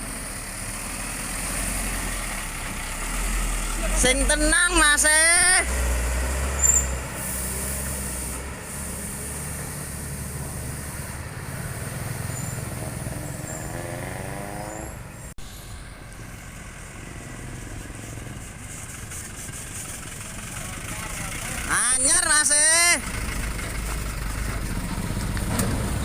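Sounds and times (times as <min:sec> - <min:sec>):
heavy truck engine running: 0:00.0 - 0:13.4, 0:15.0 - 0:21.8, 0:22.9 - 0:26.0.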